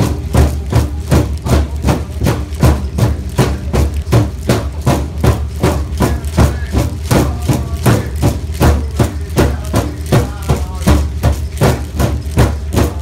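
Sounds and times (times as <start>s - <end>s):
large drum beating: 0.0s - 13.0s.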